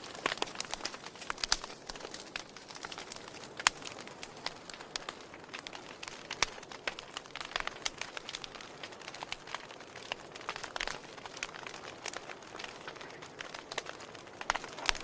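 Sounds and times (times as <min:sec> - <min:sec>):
fire hissing: 0:00.0 - 0:15.0
wood fire crackling and popping: 0:00.0 - 0:15.0.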